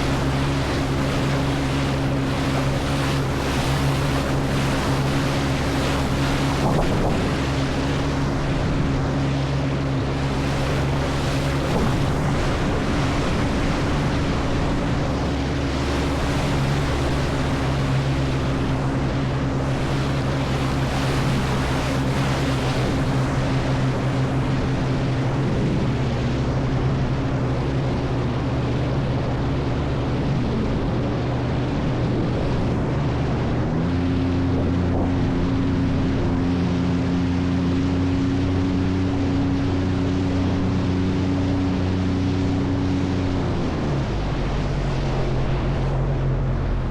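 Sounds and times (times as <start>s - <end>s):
jet ski engine running: 0.0s - 46.9s
water rushing: 0.0s - 46.9s
wind buffeting microphone: 0.0s - 46.9s.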